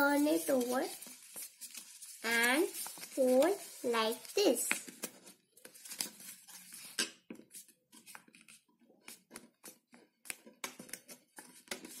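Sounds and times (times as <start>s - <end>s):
paper being folded and creased: 0.1s - 12.0s.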